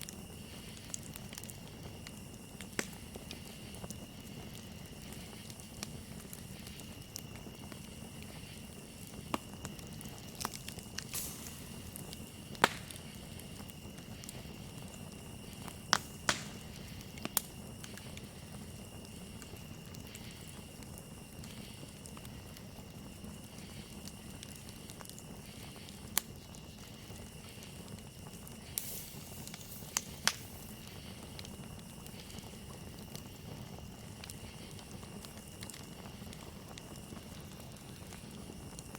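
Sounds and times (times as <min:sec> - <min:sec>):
campfire crackling and popping: 0:00.0 - 0:38.9
crickets chirping: 0:00.0 - 0:38.9.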